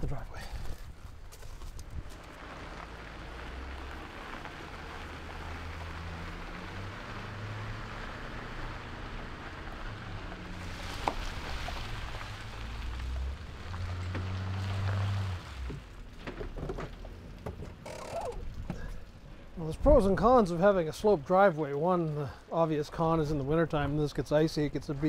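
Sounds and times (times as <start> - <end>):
tyres crunching on gravel: 0.0 - 21.6.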